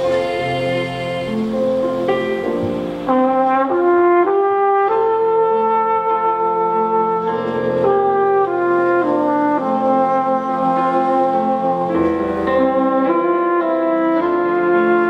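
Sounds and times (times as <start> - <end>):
brass band playing held chords: 0.0 - 15.0.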